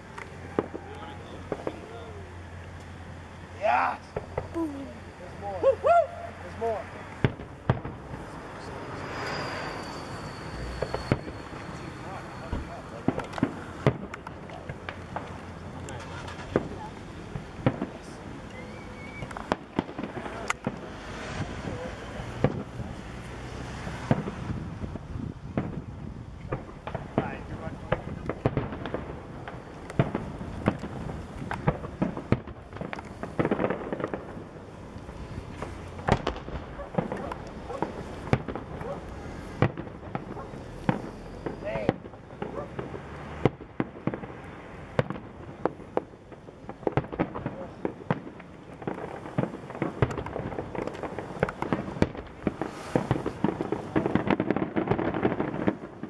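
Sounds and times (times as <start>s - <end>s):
fireworks booming: 0.0s - 56.0s.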